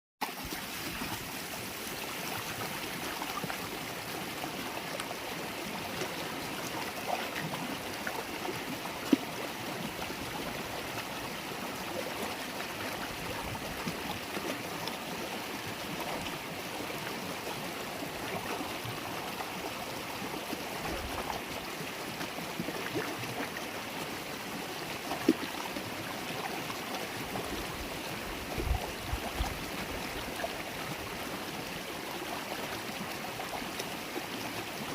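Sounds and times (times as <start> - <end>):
river water babbling over stones: 0.2 - 34.9.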